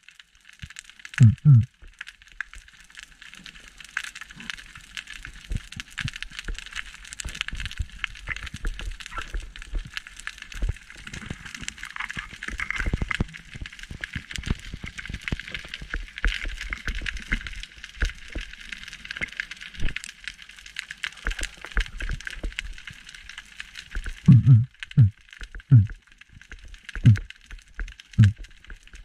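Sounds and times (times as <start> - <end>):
underwater crackle of clicks: 0.0 - 29.0.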